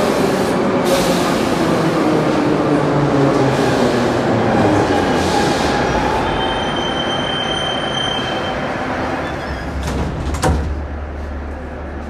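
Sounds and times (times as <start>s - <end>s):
metro cars rolling on rails: 0.0s - 12.0s.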